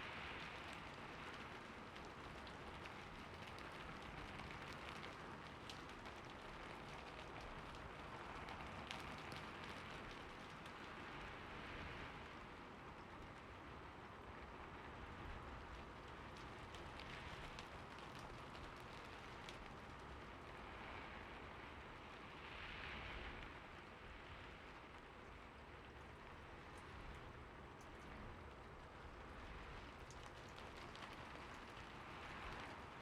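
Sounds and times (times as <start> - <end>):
rain falling: 0.0 - 33.0
raindrops ticking on a surface: 0.0 - 33.0.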